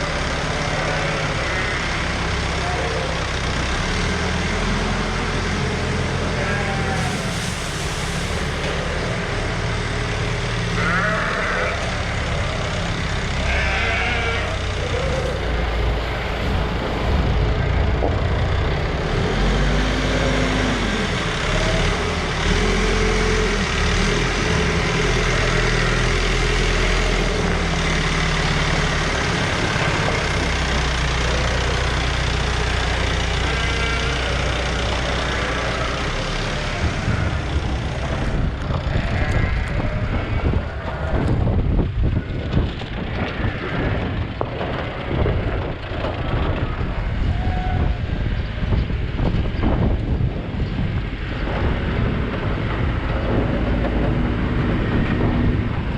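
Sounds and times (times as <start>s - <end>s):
heavy machinery engine running: 0.0s - 55.9s.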